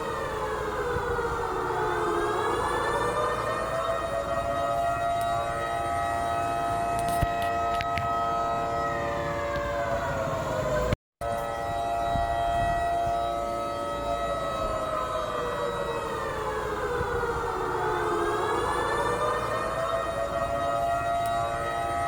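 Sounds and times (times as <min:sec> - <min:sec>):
curfew siren wailing: 0:00.0 - 0:22.0.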